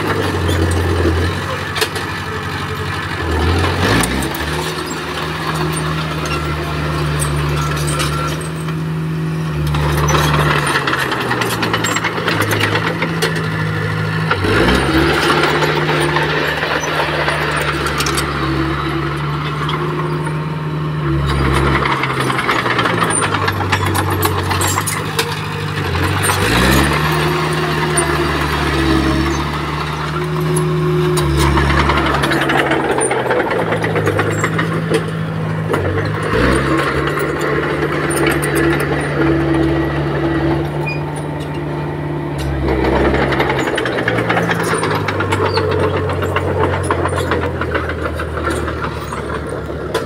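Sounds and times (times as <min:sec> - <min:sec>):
bulldozer diesel engine revving: 0:00.0 - 0:50.0.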